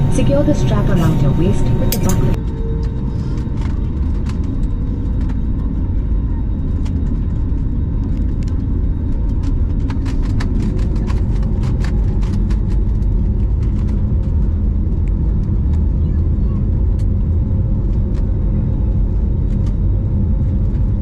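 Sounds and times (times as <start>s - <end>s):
jet engines humming: 0.0s - 21.0s
low rumble inside airliner cabin: 0.0s - 21.0s.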